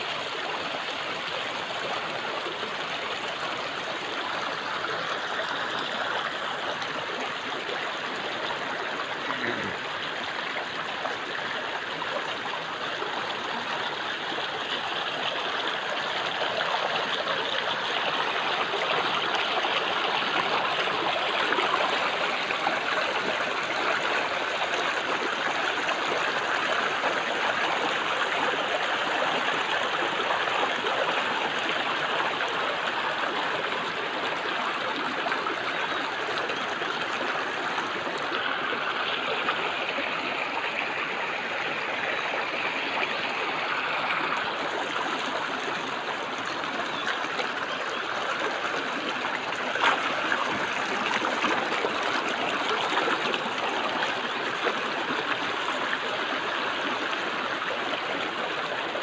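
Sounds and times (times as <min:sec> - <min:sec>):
stream burbling over stones: 0:00.0 - 0:59.0.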